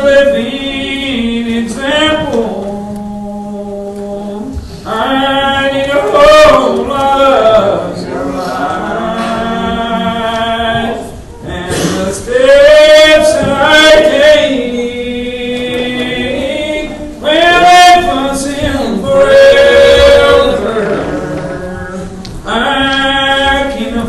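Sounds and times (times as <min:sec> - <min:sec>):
group singing a hymn unaccompanied: 0:00.0 - 0:24.0.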